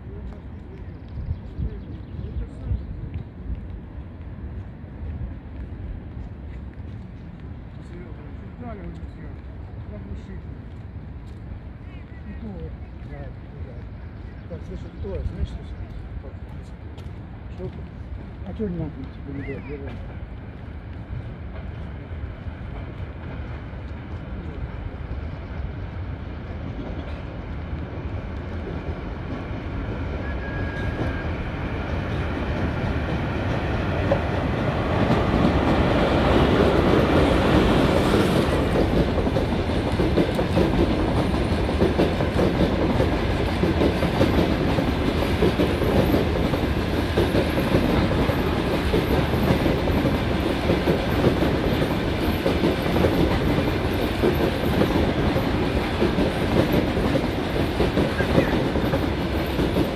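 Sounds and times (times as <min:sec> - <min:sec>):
train passing with rumble: 0:00.0 - 0:59.9.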